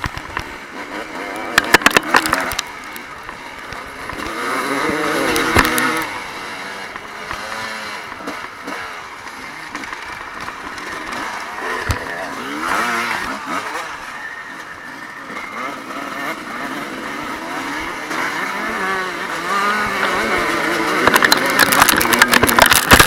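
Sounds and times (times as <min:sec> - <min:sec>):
motocross bikes revving past: 0:00.0 - 0:23.0.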